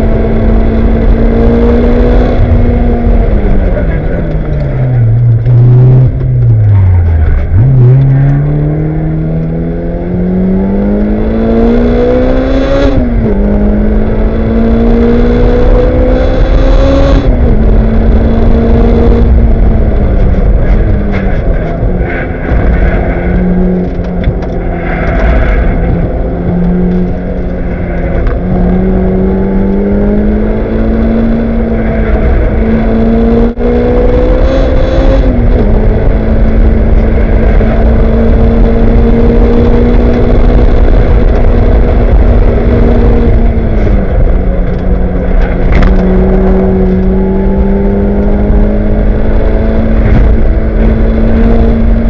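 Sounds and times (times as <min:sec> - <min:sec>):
race car engine revving: 0:00.0 - 0:52.0
wind and road noise: 0:00.0 - 0:52.0.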